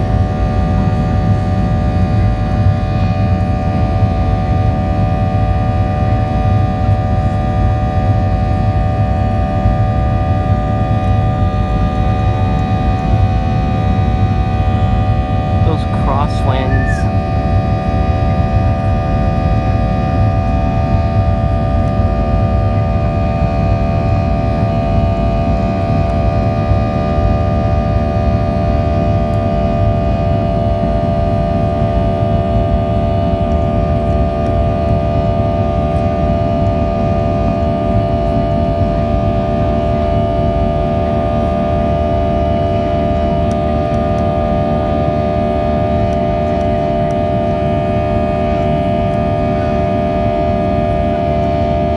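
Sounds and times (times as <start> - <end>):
jet engines at takeoff thrust: 0.0 - 51.9.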